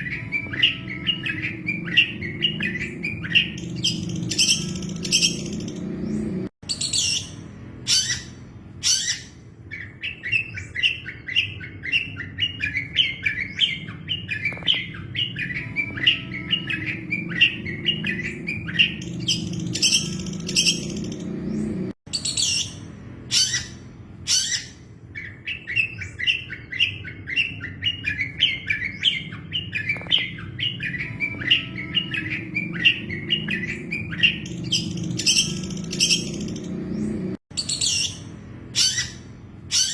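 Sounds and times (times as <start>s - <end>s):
bird song with rapid chirps: 0.0s - 39.9s.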